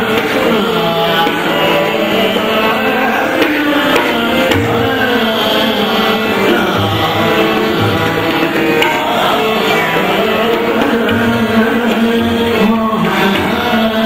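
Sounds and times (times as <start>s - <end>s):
tabla strokes: 0.0s - 14.0s.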